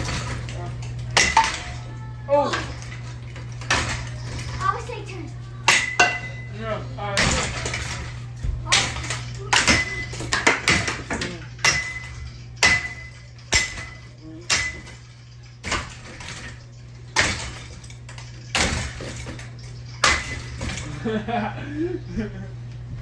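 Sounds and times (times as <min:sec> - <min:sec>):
metallic clanks on ceiling fan: 0:00.0 - 0:21.4
steady low hum: 0:00.0 - 0:23.0.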